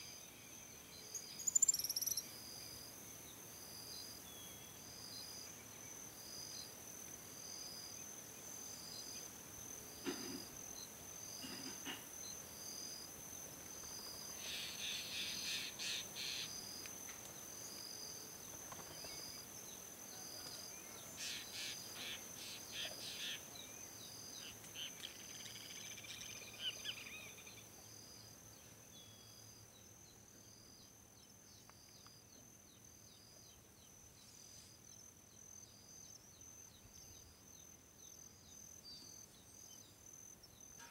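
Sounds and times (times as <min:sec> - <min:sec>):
insect chirping: 0:00.0 - 0:40.9
insects droning: 0:00.0 - 0:40.9.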